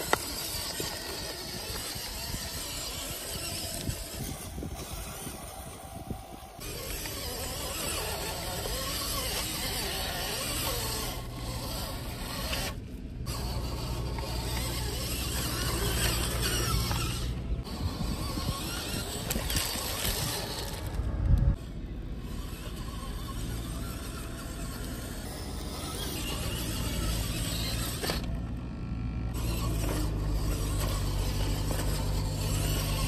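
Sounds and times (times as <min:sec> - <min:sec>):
toy car motor whining: 0:00.0 - 0:33.0
tyres pushing through grass and dirt: 0:00.0 - 0:33.0.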